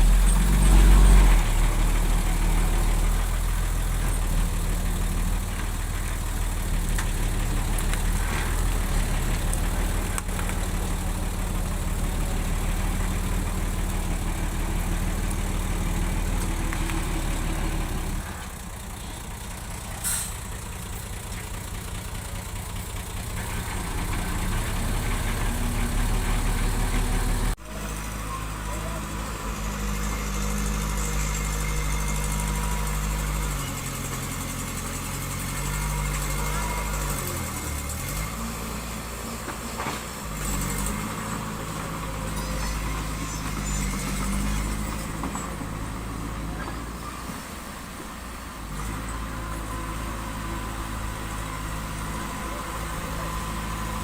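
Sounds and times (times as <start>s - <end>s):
diesel engine rumbling: 0.0s - 54.0s.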